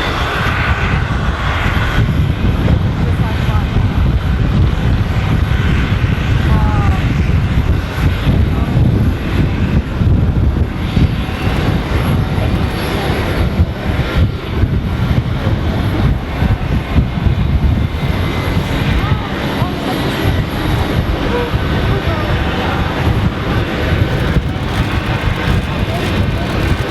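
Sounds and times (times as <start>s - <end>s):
aircraft engines rumbling: 0.0s - 26.9s.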